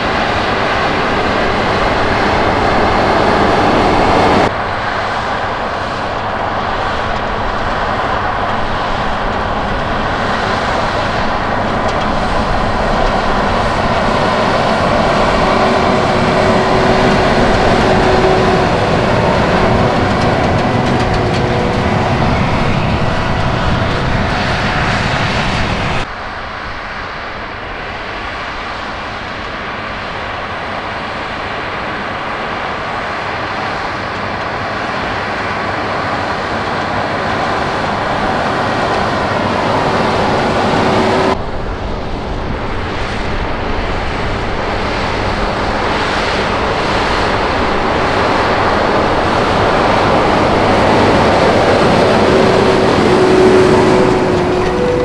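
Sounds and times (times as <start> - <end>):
diesel tractor working under load: 0.0 - 26.1, 29.5 - 55.0.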